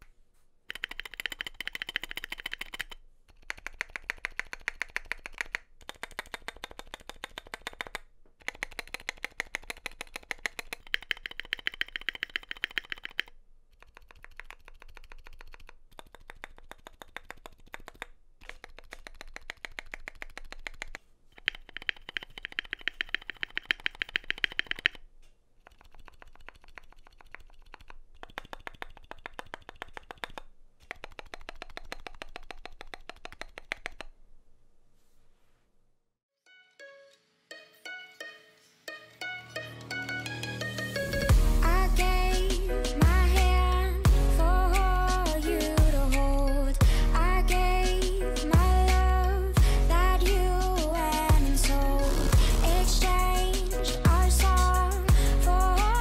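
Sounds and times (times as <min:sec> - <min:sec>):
keyboard typing: 0:00.7 - 0:34.2, 0:38.1 - 0:56.0.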